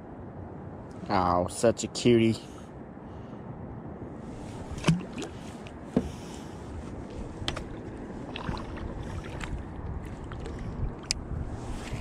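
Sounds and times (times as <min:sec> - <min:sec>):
low wind: 0:00.0 - 0:12.0
water around a kayak: 0:00.0 - 0:12.0.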